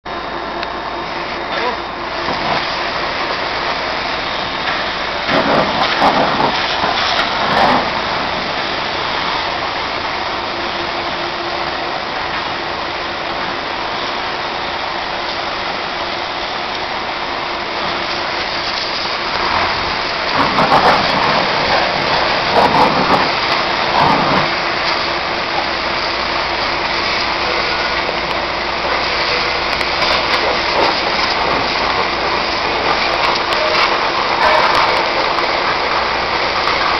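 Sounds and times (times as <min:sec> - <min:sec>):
steady machine hum: 0:00.1 - 0:36.9
pressure washer spray hissing: 0:01.7 - 0:36.9.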